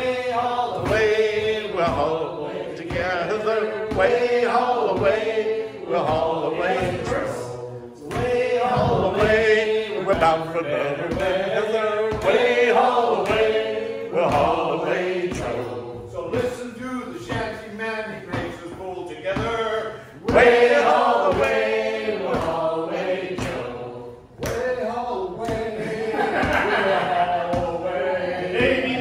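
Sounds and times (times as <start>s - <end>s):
sea shanty sung a cappella: 0.0s - 16.6s, 17.3s - 29.0s.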